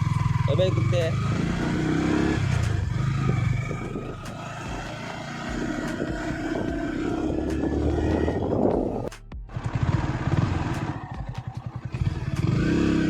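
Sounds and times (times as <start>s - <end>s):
motorcycle engine droning: 0.0s - 13.0s.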